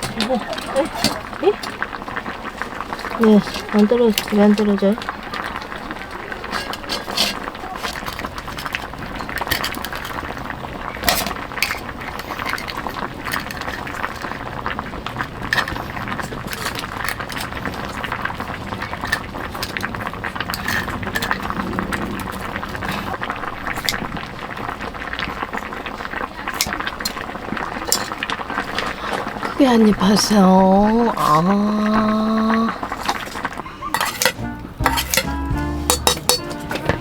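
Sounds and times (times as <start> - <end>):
food bubbling and sizzling: 0.0 - 37.0
utensils clinking: 0.0 - 37.0
wood fire crackling: 0.0 - 37.0.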